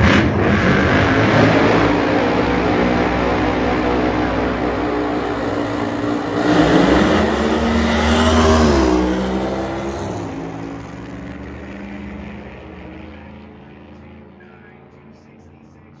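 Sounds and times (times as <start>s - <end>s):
drag racing cars accelerating: 0.0s - 16.0s.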